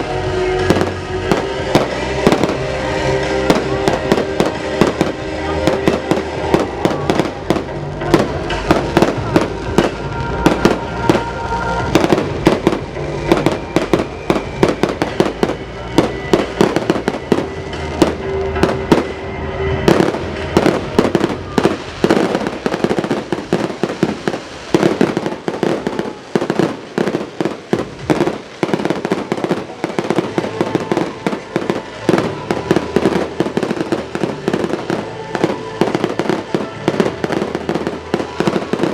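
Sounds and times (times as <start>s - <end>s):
fireworks bursts and bangs: 0.0s - 38.9s
fireworks crackle: 0.0s - 38.9s
loud show music: 0.0s - 38.9s.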